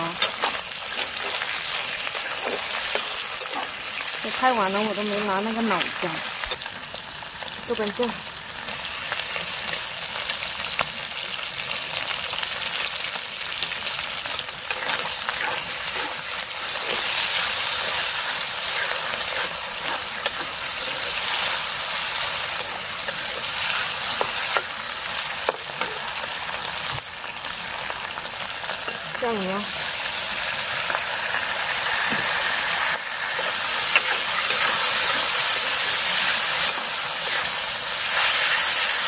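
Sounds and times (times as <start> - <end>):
meat sizzling in hot oil: 0.0 - 39.0.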